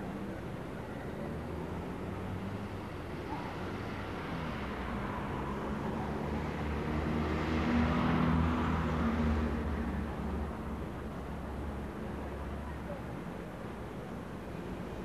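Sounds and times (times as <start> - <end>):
car engines on a street: 0.0 - 15.0.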